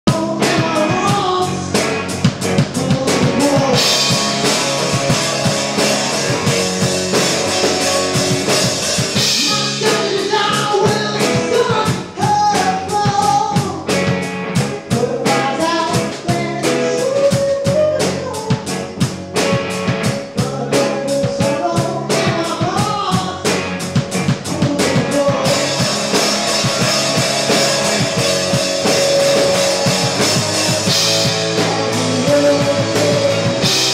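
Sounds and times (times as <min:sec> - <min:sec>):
bass guitar: 0:00.0 - 0:33.9
drum kit: 0:00.0 - 0:33.9
lead vocal singing: 0:00.1 - 0:18.8, 0:20.2 - 0:33.9
electric guitars: 0:00.1 - 0:33.9.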